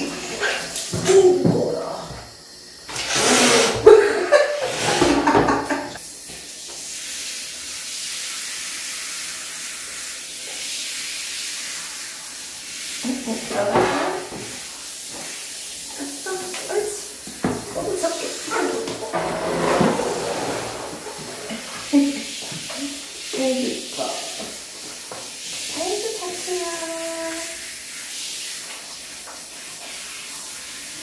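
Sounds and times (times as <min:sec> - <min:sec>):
shower spray hissing: 0:00.0 - 0:31.0.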